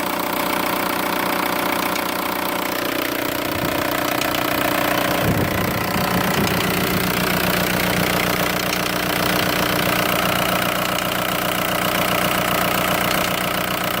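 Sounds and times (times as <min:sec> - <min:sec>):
diesel engine idling: 0:00.0 - 0:14.0
rapid engine ticking: 0:00.0 - 0:14.0.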